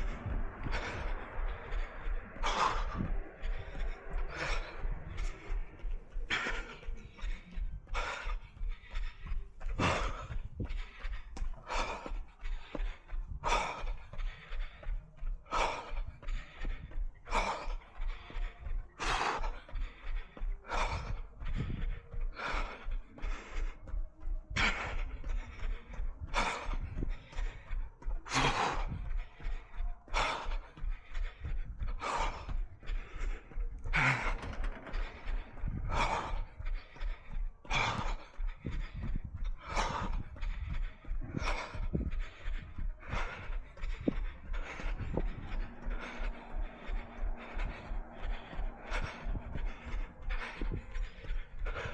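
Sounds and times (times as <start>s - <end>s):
runner breathing hard: 0.0s - 51.9s.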